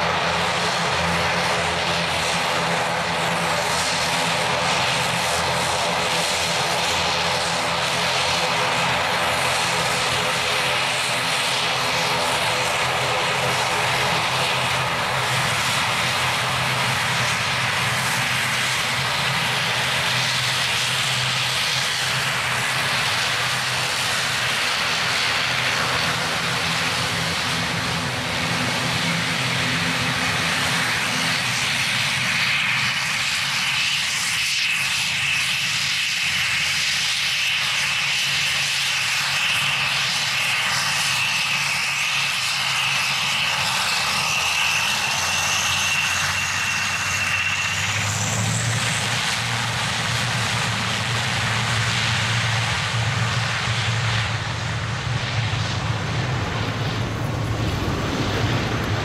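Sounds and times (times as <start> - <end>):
propeller drone: 0.0 - 59.0
turbine whine: 0.0 - 59.0.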